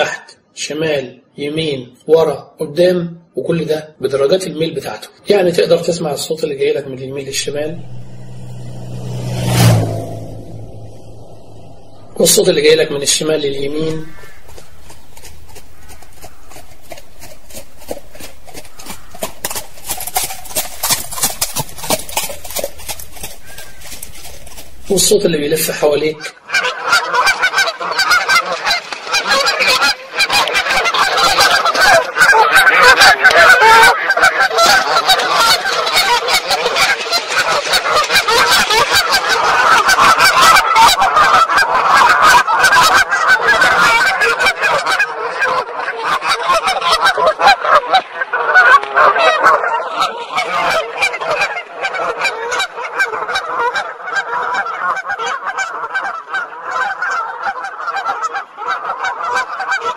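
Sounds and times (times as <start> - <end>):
flock of birds honking: 5.6 - 59.9.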